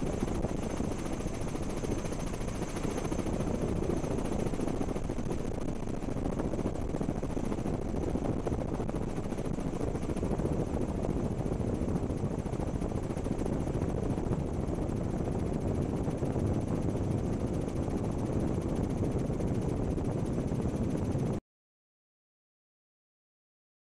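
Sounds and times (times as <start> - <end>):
helicopter in flight: 0.0 - 21.4.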